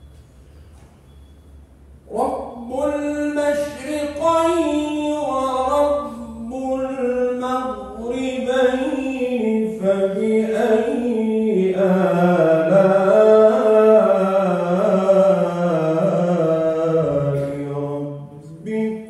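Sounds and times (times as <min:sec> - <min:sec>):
man chanting melodically: 0:02.0 - 0:19.0.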